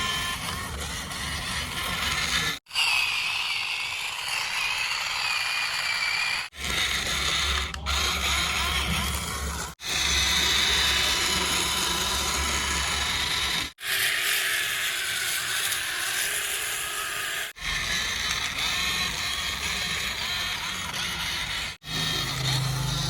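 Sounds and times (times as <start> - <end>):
toy vehicle motors whirring: 0.0 - 23.0.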